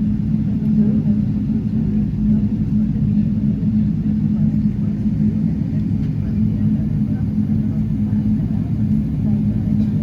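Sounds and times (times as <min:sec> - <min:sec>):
aircraft cabin engine rumble: 0:00.0 - 0:10.0
constant low hum: 0:00.0 - 0:10.0.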